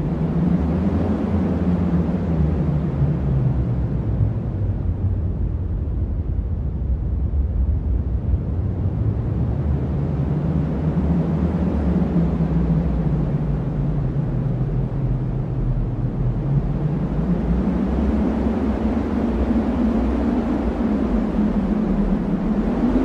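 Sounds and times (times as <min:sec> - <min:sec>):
wind blowing deep rumble: 0:00.0 - 0:23.0.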